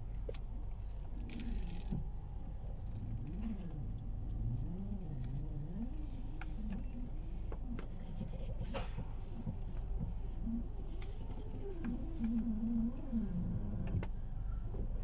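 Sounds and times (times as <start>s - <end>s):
suspension squealing: 1.0s - 14.8s.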